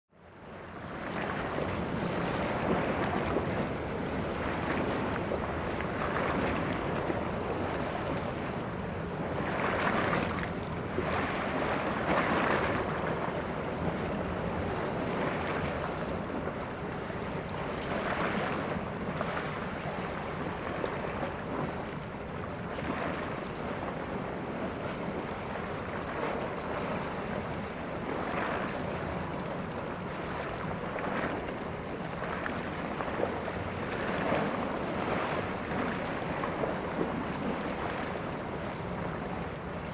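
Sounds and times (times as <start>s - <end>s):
sea waves washing: 0.2s - 39.9s
wind buffeting microphone: 0.2s - 39.9s.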